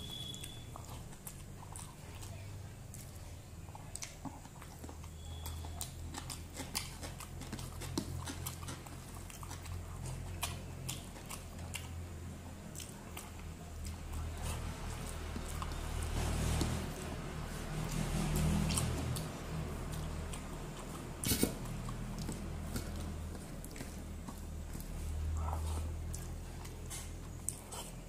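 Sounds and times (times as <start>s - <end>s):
close chewing: 0.0s - 28.0s.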